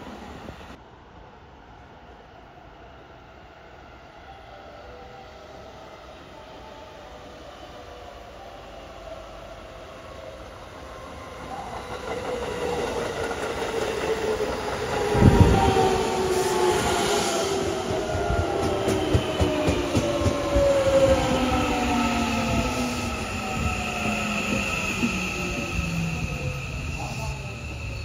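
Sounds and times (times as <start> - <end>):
electric train passing: 0.0 - 28.0.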